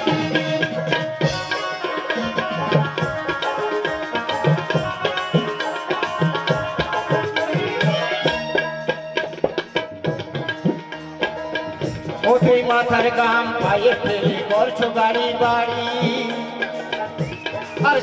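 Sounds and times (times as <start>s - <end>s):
hand drum beating: 0.0s - 18.0s.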